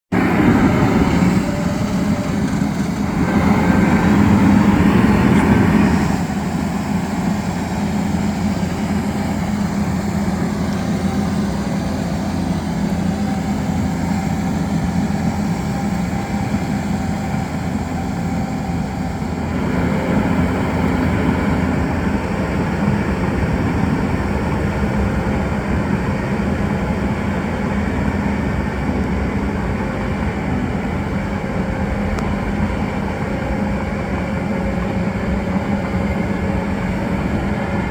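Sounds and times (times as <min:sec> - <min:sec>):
crawler dozer running: 0:00.1 - 0:37.9.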